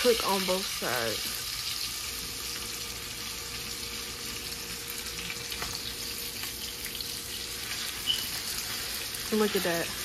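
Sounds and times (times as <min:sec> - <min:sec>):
chicken sizzling in skillet: 0:00.0 - 0:10.0.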